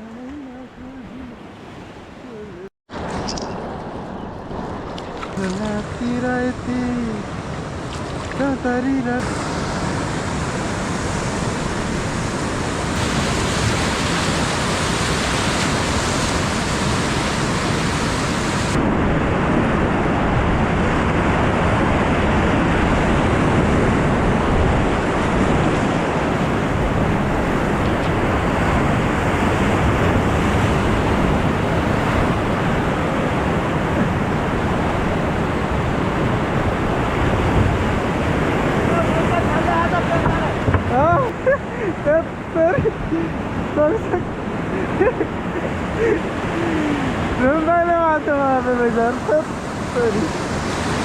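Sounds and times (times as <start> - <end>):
wind buffeting microphone: 0.0 - 51.0
whitewater rushing in rapids: 5.4 - 18.9, 21.1 - 51.0.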